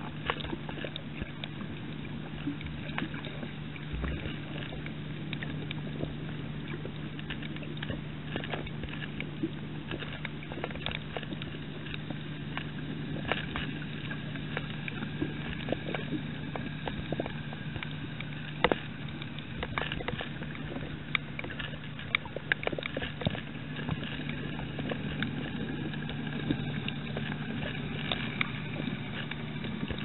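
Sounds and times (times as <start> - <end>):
steady low hum: 0.0 - 30.0
underwater clicks and crackles: 0.0 - 30.0.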